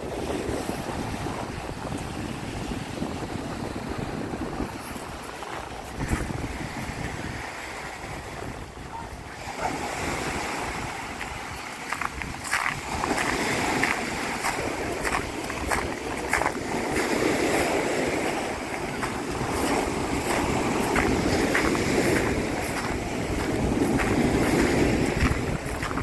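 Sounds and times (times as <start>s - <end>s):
surf washing onto shore: 0.0s - 26.0s
wind buffeting microphone: 0.0s - 26.0s.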